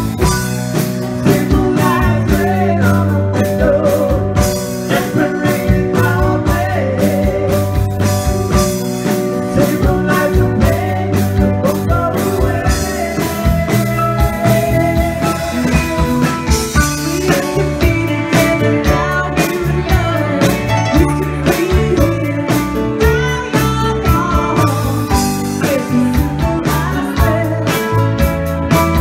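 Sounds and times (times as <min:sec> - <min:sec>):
electric bass: 0:00.0 - 0:29.0
electric guitar: 0:00.0 - 0:29.0
steady drum beat: 0:00.0 - 0:29.0
woman singing: 0:01.2 - 0:07.7, 0:09.5 - 0:28.3.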